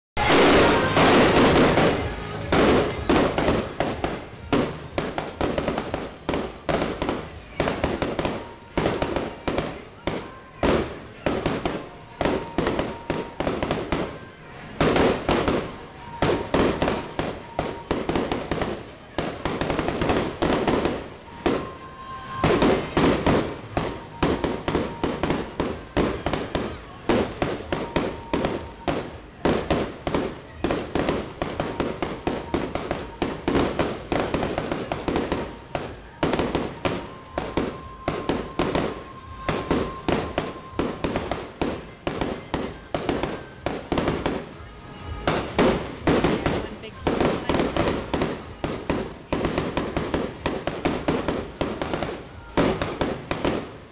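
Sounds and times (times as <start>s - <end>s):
fireworks banging: 0.2s - 53.9s.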